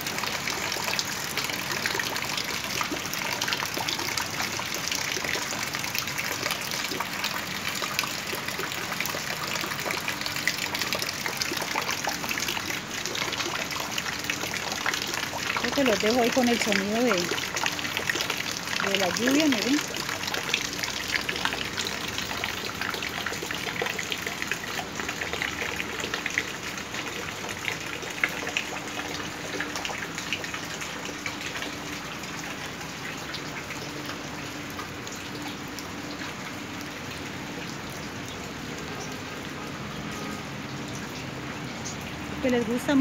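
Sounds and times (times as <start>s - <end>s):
heavy rain on paving and leaves: 0.0s - 43.0s.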